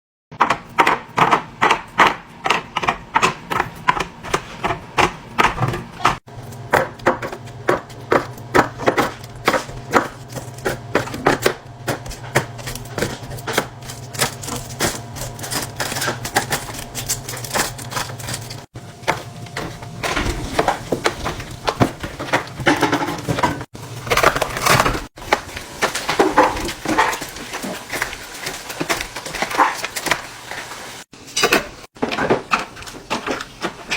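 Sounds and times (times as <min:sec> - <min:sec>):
food containers being handled: 0:02.4 - 0:33.9.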